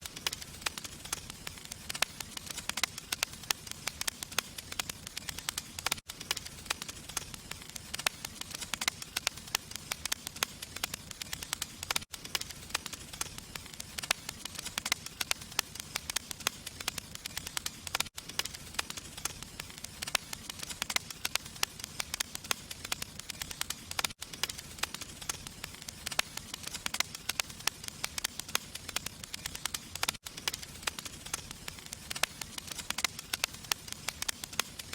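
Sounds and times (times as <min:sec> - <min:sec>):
fire crackling and popping: 0:00.0 - 0:34.9.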